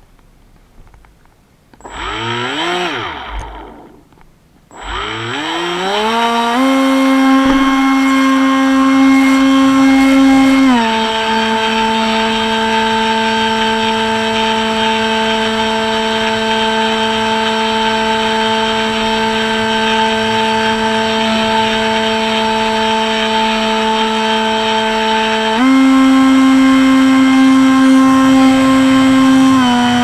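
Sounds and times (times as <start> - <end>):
electric motor propeller whine: 1.8 - 30.0.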